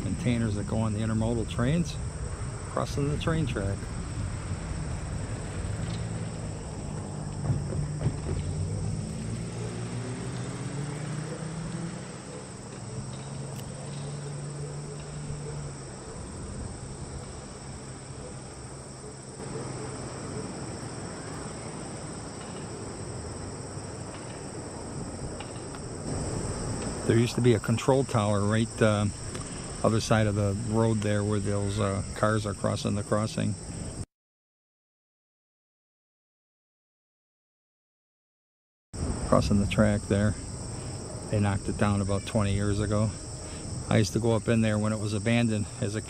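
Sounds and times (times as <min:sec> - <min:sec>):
vehicle engine hum: 0:00.0 - 0:32.7, 0:39.0 - 0:46.0
crickets chirping: 0:00.0 - 0:34.1, 0:39.0 - 0:46.0.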